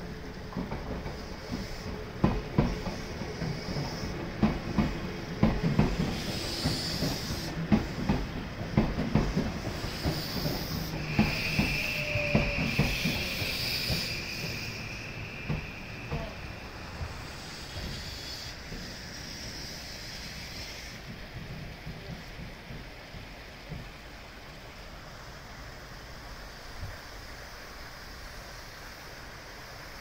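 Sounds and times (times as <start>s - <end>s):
train wheels clacking over rail joints: 0.0s - 25.4s
train running rumble and hiss: 0.0s - 30.0s.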